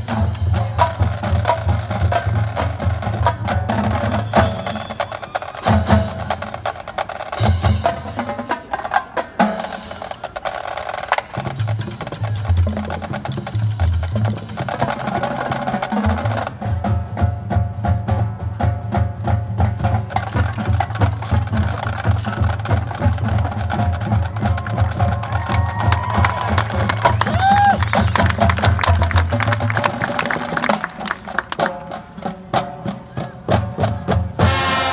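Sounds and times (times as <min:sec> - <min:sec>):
fast even drum pattern: 0:00.0 - 0:34.9
marching band playing: 0:00.0 - 0:34.9.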